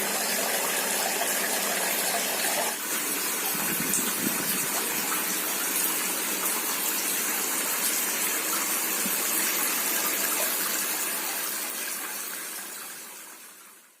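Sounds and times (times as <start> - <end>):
fountain water splashing into bowl: 0.0 - 13.4.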